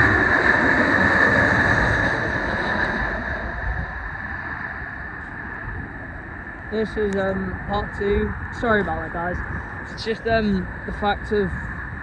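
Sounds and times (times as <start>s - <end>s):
jet engine roar with whine: 0.0s - 12.0s.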